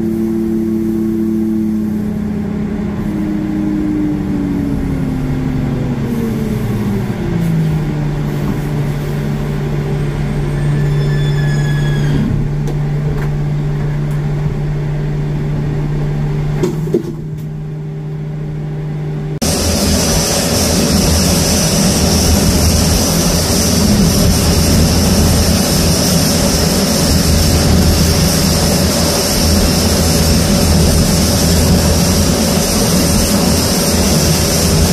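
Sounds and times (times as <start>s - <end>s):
jet engines roaring and whining: 0.0s - 34.9s.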